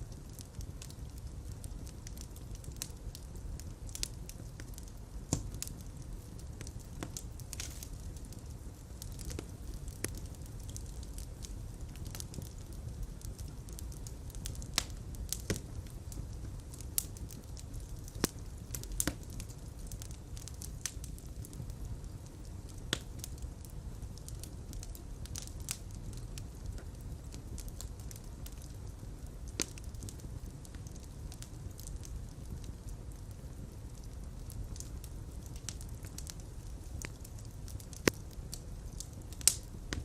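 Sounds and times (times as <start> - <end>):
fire crackling in fireplace: 0.0 - 40.0.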